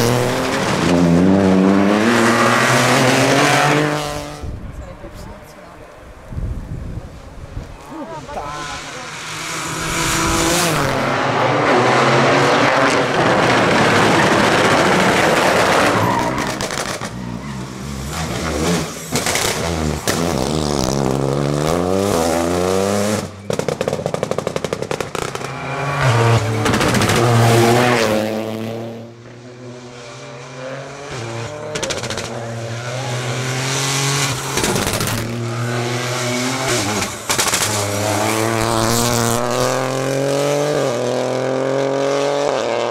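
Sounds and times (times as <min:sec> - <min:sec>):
rally car engine revving: 0:00.0 - 0:04.5, 0:08.1 - 0:42.9.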